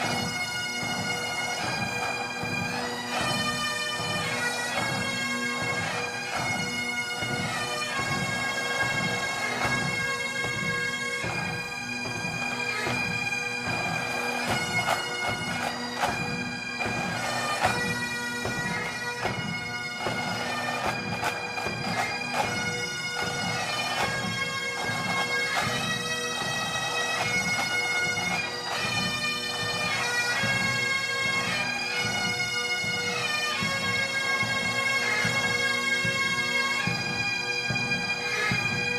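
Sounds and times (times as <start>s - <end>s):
bagpipe music: 0.0s - 38.9s.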